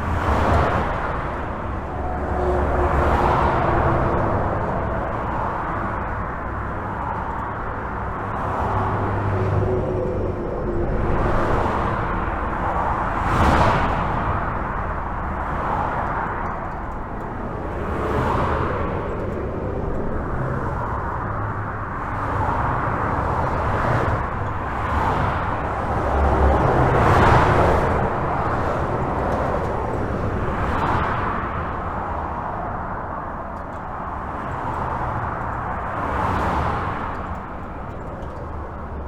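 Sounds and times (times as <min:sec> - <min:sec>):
highway traffic passing: 0:00.0 - 0:39.0.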